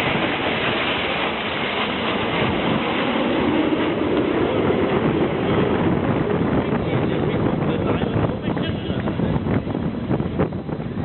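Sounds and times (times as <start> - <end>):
jet engines flying past: 0.0 - 11.0.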